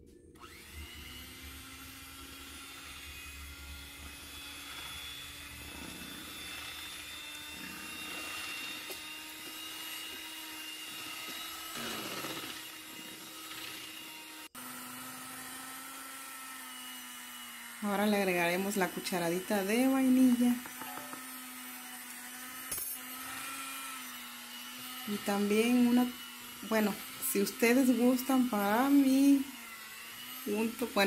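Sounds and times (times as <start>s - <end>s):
electric hand mixer running: 0.4s - 31.0s.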